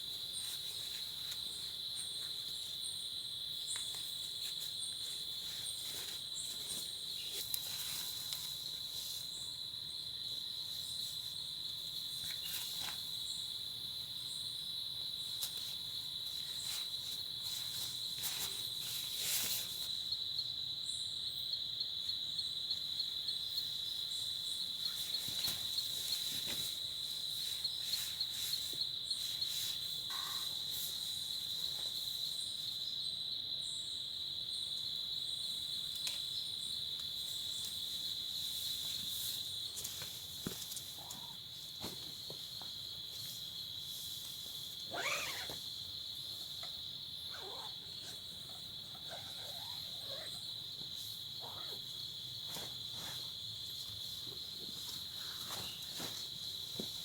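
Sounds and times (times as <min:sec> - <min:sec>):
night insects chirping: 0:00.0 - 0:57.0.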